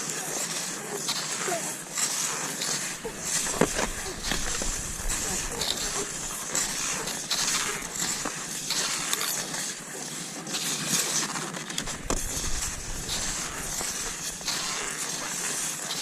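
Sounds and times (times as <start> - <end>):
skis sliding over snow: 0.0 - 16.0.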